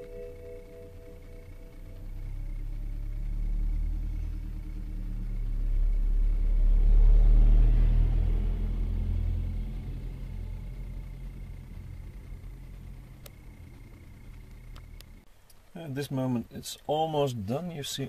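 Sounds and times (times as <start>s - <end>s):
tractor diesel engine rumbling: 0.0s - 15.3s.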